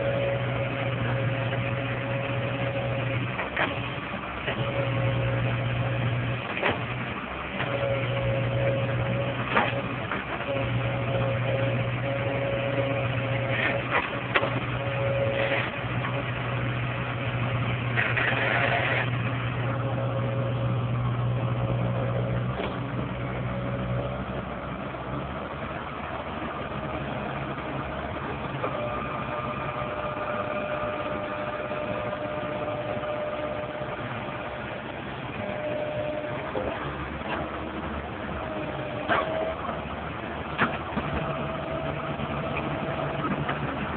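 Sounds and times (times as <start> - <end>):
excavator diesel engine running: 0.0 - 43.9
high steady whine: 0.0 - 43.9.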